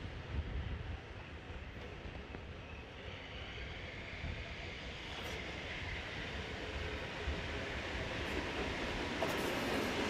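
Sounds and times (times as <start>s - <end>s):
electric locomotive rumbling on rails: 0.0s - 10.0s.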